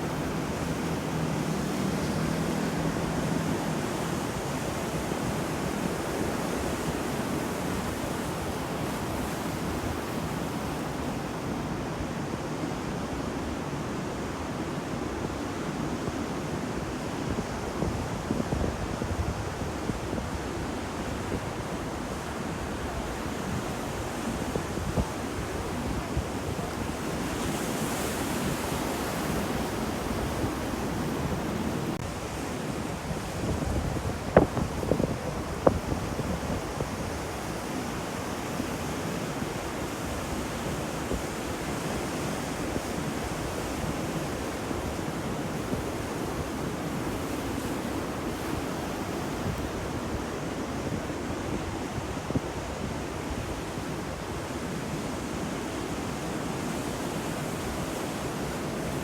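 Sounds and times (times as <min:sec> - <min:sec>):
waves breaking: 0:00.0 - 0:13.6, 0:19.6 - 0:59.0
wind: 0:00.0 - 0:59.0.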